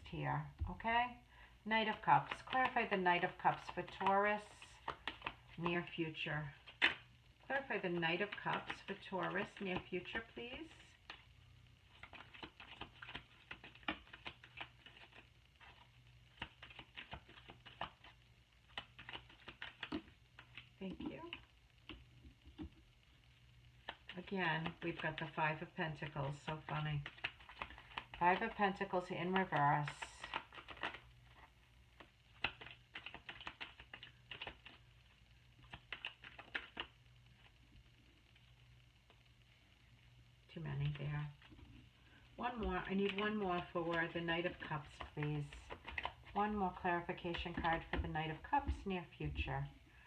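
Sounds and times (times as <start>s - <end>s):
faint low hum: 0.0s - 50.0s
cards being shuffled: 1.8s - 22.8s, 23.8s - 37.6s, 42.5s - 48.9s.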